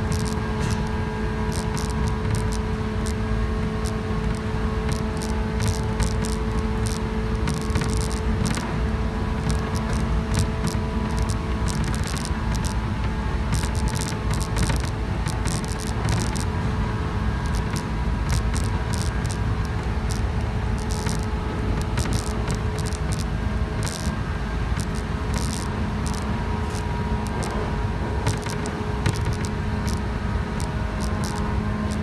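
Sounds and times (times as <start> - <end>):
train rumble and hum: 0.0 - 32.0.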